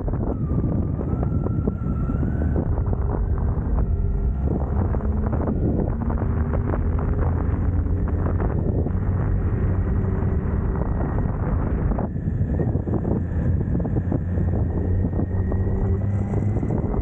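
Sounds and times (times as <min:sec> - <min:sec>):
wind buffeting microphone: 0:00.0 - 0:17.0
motorcycle engine: 0:00.2 - 0:17.0.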